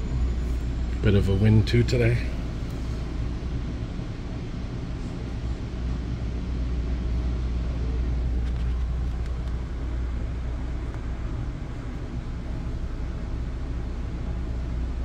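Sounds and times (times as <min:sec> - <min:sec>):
low hum inside train coach: 0:00.0 - 0:15.0.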